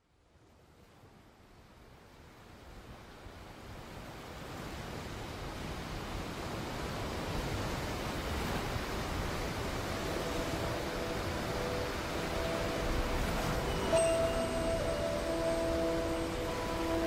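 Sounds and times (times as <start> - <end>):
surf-like rushing noise: 0.8 - 17.0.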